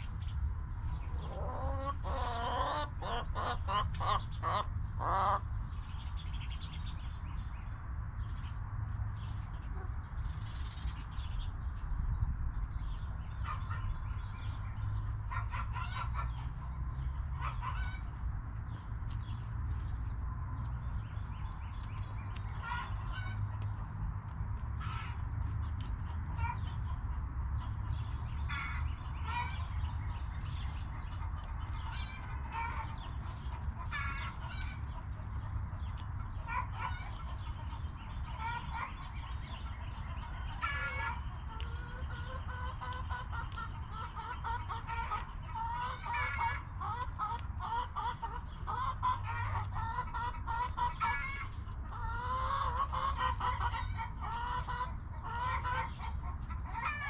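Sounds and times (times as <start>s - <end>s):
hens clucking: 0.8s - 5.8s, 13.4s - 14.0s, 14.9s - 57.0s.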